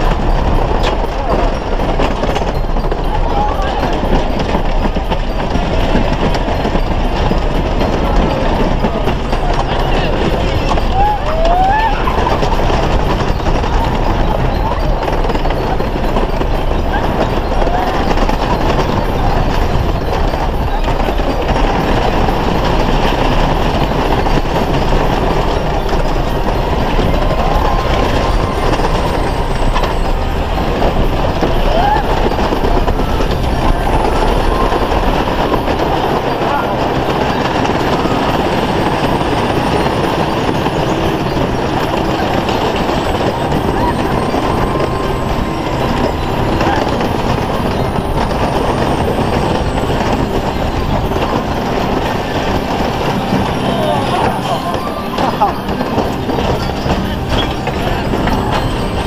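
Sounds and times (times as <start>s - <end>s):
roller coaster rumbling on wooden track: 0.0s - 59.0s.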